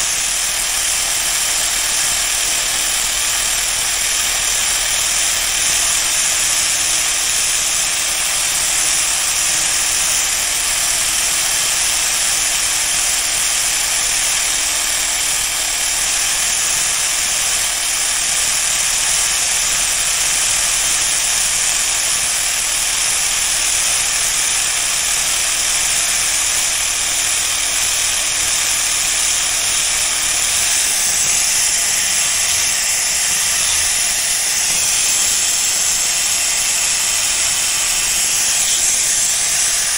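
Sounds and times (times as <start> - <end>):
power tool grinding steel blade: 0.0 - 39.9.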